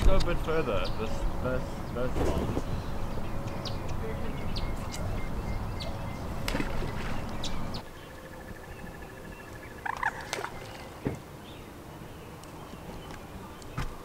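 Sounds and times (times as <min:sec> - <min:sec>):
bird calling: 0:00.7 - 0:14.0.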